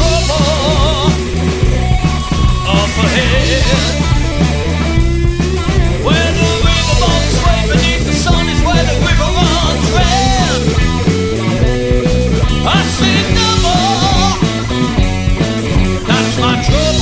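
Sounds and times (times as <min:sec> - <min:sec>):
rock song with singer: 0:00.0 - 0:17.0.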